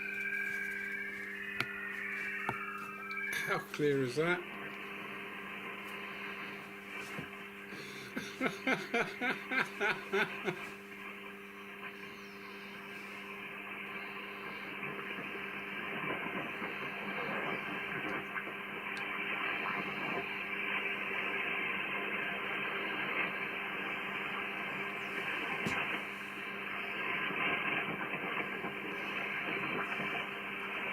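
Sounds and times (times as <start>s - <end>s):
quick rhythmic radio pulses: 0.0s - 30.9s
radio band hiss: 0.0s - 30.9s
sweeping radio chirps: 0.0s - 30.9s.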